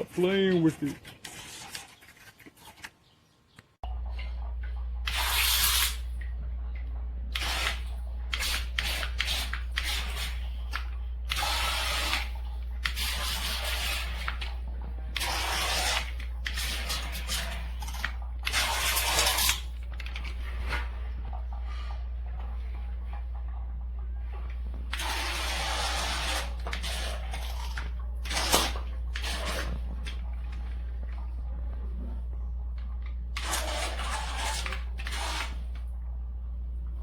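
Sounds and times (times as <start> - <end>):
steady low hum: 3.8 - 37.0.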